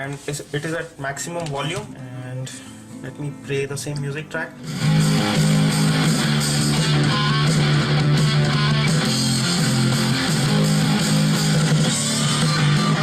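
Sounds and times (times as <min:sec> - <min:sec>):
loud guitar music through speakers: 0:01.5 - 0:13.0.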